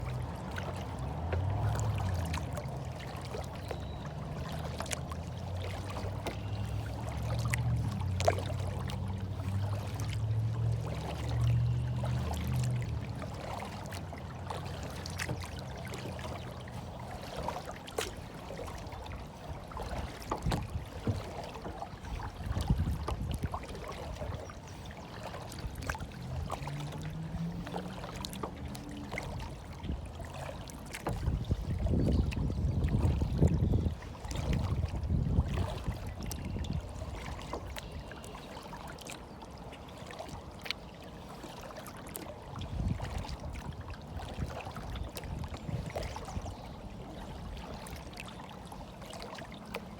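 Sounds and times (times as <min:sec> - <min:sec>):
small splashes and clicks: 0:00.0 - 0:49.9
water flowing and trickling: 0:00.0 - 0:49.9.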